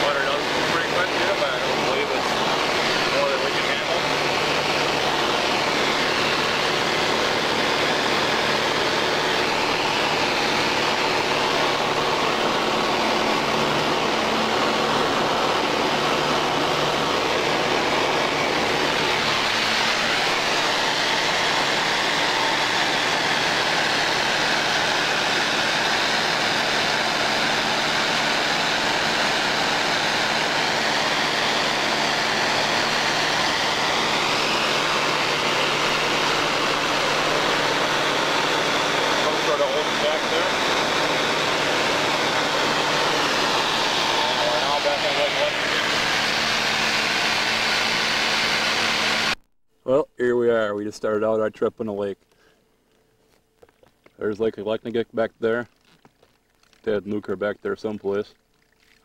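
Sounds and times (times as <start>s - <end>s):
airplane engine droning: 0.0s - 49.4s.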